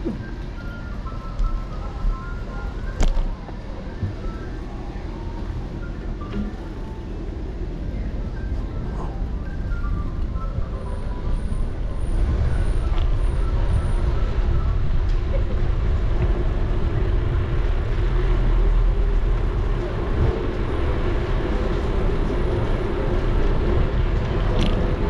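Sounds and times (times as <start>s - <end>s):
tyres rolling on pavement: 0.0s - 25.0s
voices of passers-by: 0.0s - 25.0s
wind rumble on microphone: 0.0s - 25.0s.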